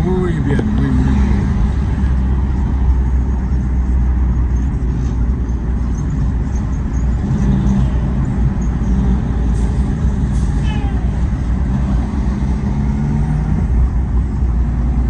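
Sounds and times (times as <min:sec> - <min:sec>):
vehicle road and engine noise: 0:00.0 - 0:15.0.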